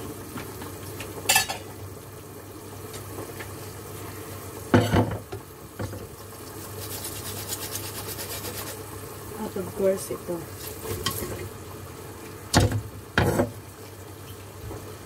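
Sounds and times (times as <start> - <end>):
pot bubbling: 0.0 - 15.0.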